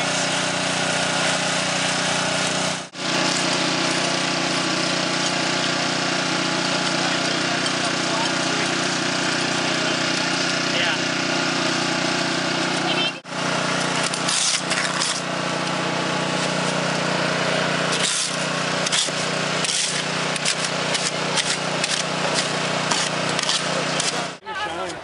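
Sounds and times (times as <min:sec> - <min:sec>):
shovels scraping wet concrete: 0:00.0 - 0:24.9
small engine humming: 0:00.0 - 0:25.0.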